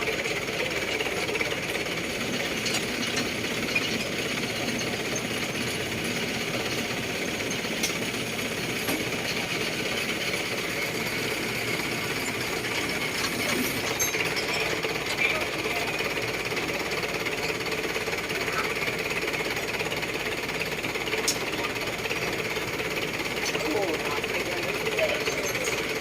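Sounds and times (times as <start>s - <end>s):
truck engine rattling: 0.0s - 26.0s.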